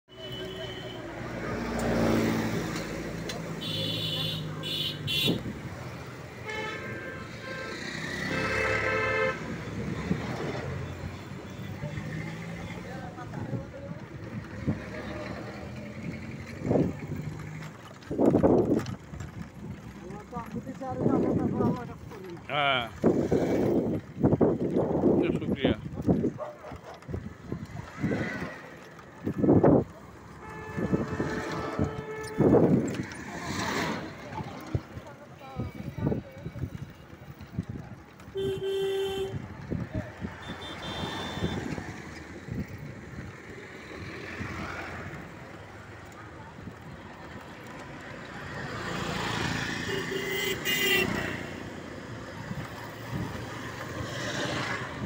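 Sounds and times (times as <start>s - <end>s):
auto-rickshaw engine passing: 0.1s - 55.0s
street traffic rushing past: 0.1s - 55.0s.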